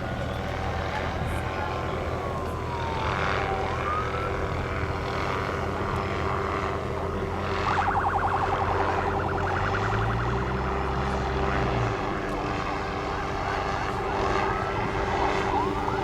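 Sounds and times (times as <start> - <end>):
vehicle engine humming: 0.0 - 16.0
gliding siren tone: 0.4 - 16.0
rapid pulsing siren warble: 0.4 - 16.0.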